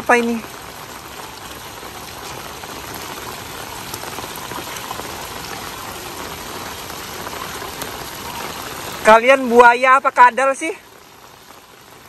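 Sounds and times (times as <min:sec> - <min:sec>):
heavy rain on gravel and paving: 0:00.0 - 0:12.0
raindrop taps: 0:00.0 - 0:12.0.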